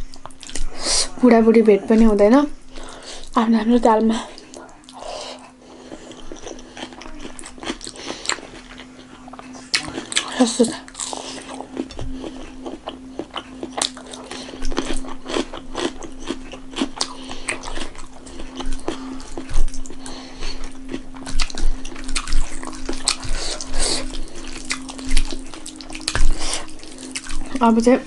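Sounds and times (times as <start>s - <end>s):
chewing with mouth clicks: 0.0s - 0.8s, 2.7s - 28.0s
steady low hum: 0.0s - 28.0s.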